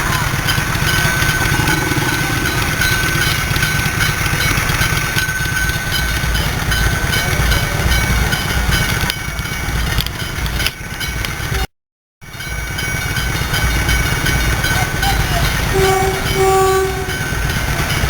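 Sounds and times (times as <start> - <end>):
engine rumbling: 0.0 - 11.7, 12.3 - 18.0.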